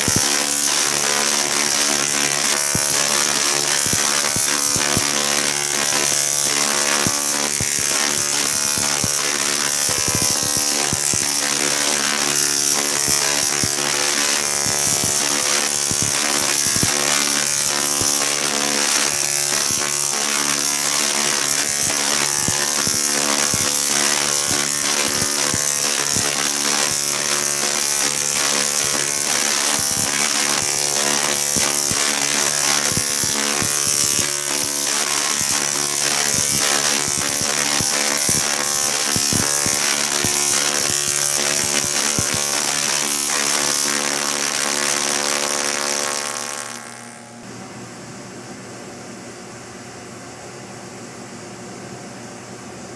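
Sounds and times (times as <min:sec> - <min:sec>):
electric arcs crackling: 0:00.0 - 0:47.4
tesla coil buzzing: 0:00.0 - 0:47.4.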